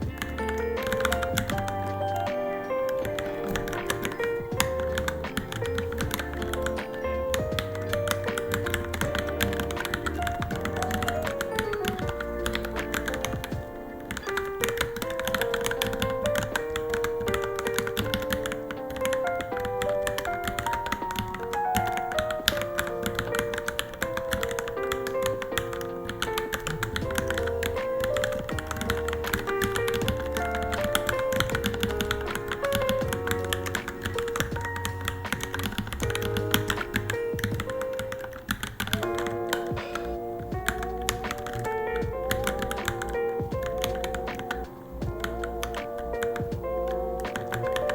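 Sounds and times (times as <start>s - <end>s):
background music with bass: 0.0s - 37.9s, 38.9s - 47.9s
mechanical keyboard typing: 0.0s - 47.9s.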